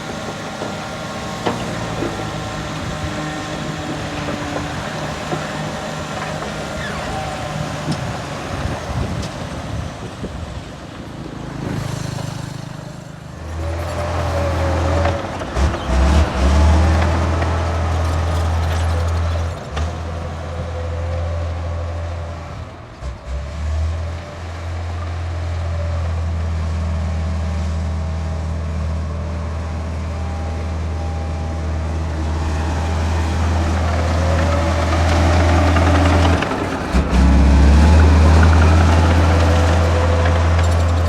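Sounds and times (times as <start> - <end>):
diesel engine running steadily: 0.0 - 41.0.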